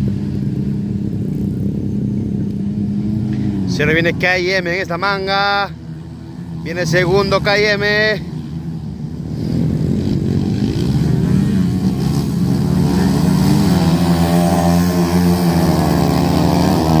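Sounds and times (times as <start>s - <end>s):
motocross bike engines running: 0.0s - 17.0s.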